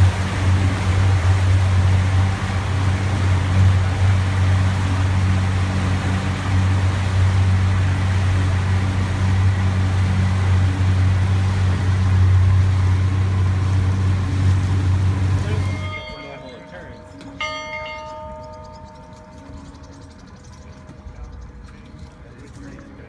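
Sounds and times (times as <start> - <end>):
motorboat engine hum: 0.0 - 23.0
water rushing: 0.0 - 23.0.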